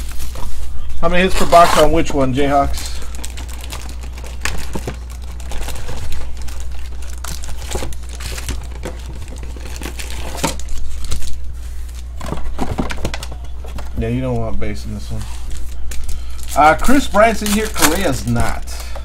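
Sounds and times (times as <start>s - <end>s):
foil packs crinkling: 0.0s - 19.0s
steady low hum: 0.0s - 19.0s.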